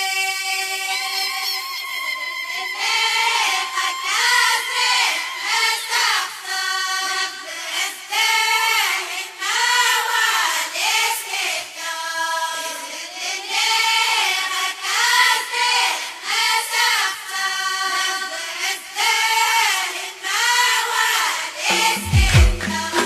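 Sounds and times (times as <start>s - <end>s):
chorus singing high-pitched phrases: 0.0s - 23.0s.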